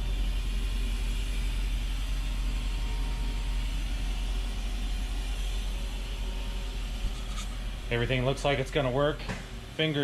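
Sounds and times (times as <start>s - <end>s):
machine low drone: 0.0s - 9.8s.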